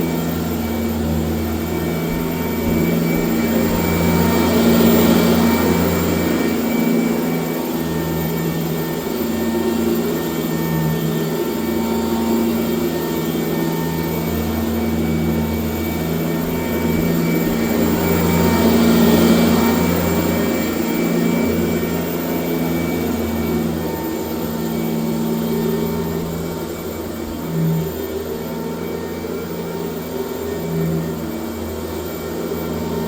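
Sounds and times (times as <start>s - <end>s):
upright vacuum cleaner running: 0.0s - 33.0s.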